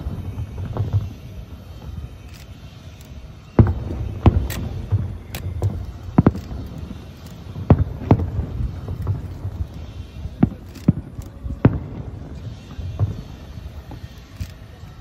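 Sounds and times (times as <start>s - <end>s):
distant firework bangs: 0.0s - 14.7s.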